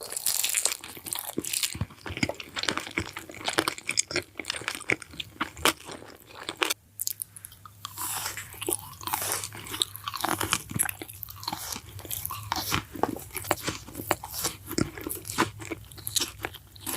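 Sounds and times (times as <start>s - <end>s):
person chewing crunchy food: 0.0s - 16.9s.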